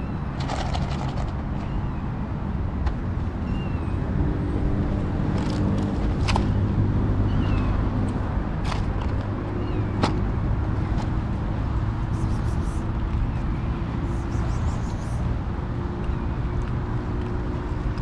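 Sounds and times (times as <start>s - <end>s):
faint engine hum: 0.0s - 18.0s
road traffic rumble: 0.0s - 18.0s.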